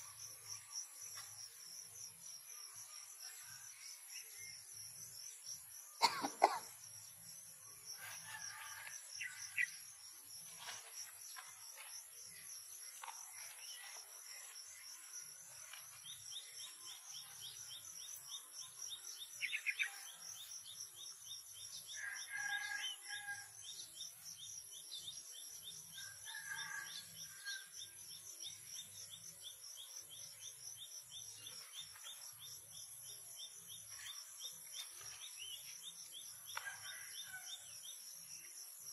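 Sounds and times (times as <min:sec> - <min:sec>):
insects chirring in chorus: 0:00.0 - 0:38.9.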